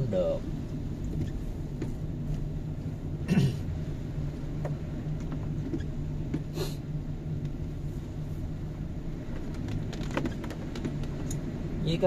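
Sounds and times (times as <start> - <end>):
car engine rumble: 0.0 - 12.0
tyres on a wet road: 0.0 - 12.0.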